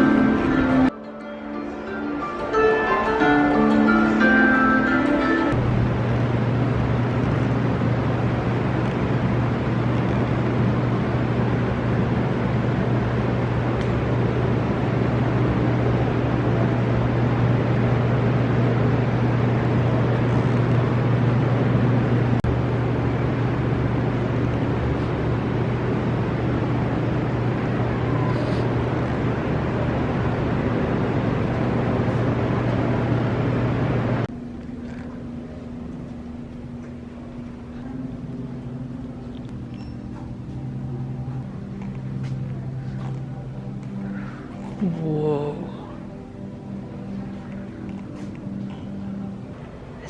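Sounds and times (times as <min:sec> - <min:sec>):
steady low drone with hiss: 0:00.0 - 0:50.0.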